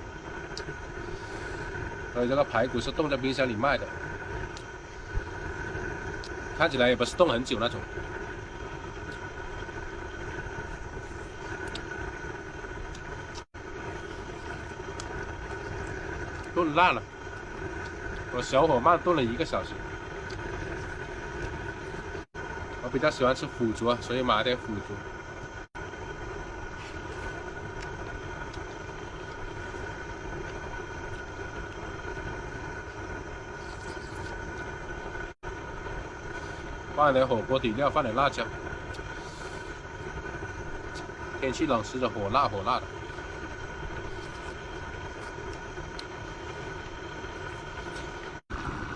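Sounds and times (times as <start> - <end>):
gas burner hissing: 0.0 - 48.9.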